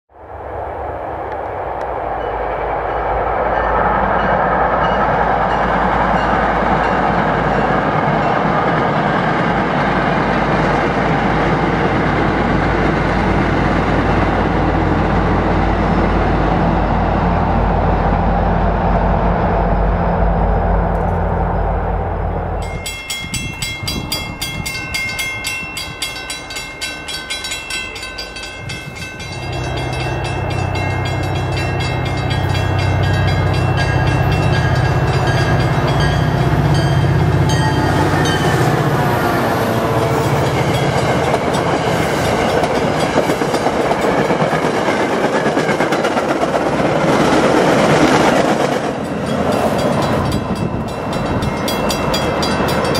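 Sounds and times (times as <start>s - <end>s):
diesel train passing: 0.1s - 52.9s.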